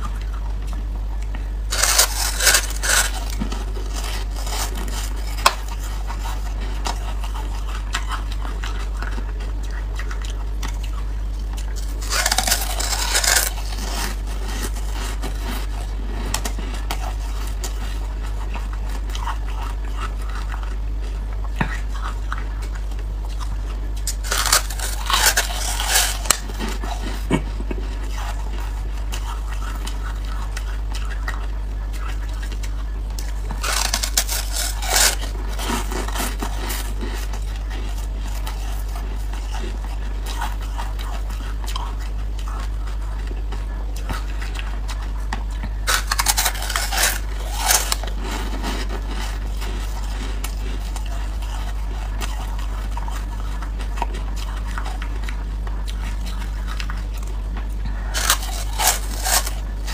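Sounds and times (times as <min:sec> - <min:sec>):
faint crackling chews: 0:00.0 - 0:59.9
steady low hum: 0:00.0 - 0:59.9
teeth crunching ice: 0:01.7 - 0:20.8, 0:21.5 - 0:59.9.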